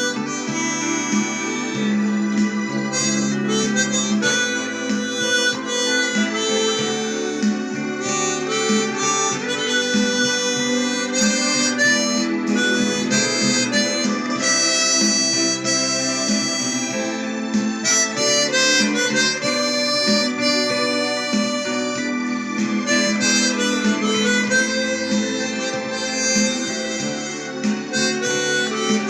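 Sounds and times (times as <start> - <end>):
harmonica melody: 0.0 - 29.0
low accompaniment: 0.0 - 29.0.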